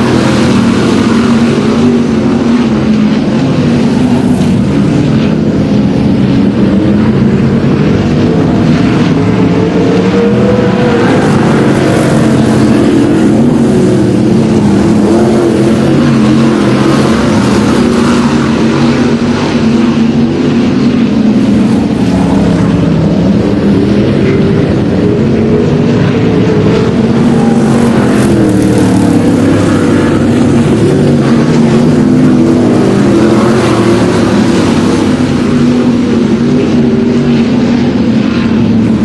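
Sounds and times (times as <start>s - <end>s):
race car engines roaring: 0.0s - 39.0s.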